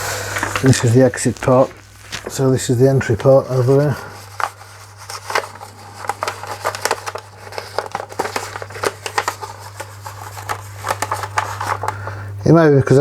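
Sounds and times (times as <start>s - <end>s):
paper clicking and crackling: 0.0s - 12.4s
laminator humming: 0.0s - 13.0s.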